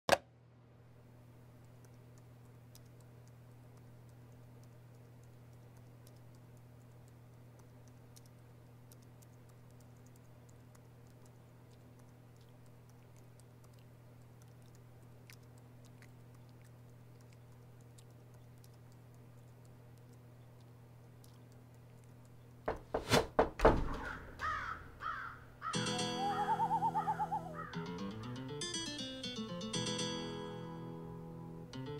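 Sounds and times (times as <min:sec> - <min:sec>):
low room hum: 0:00.1 - 0:31.9.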